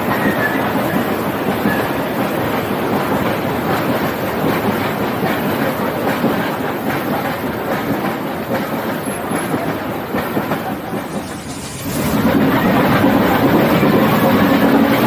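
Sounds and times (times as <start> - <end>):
train wheels rattling on rails: 0.0 - 15.0.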